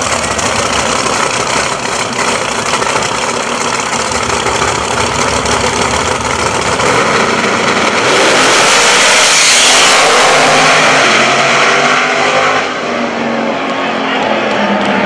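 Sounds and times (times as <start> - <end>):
drag racing engines revving: 0.0 - 15.0.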